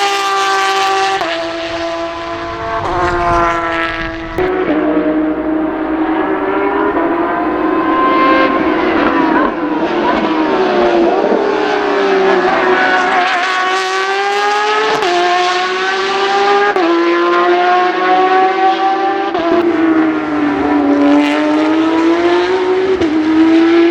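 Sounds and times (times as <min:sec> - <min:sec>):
race car engine accelerating: 0:00.0 - 0:23.9.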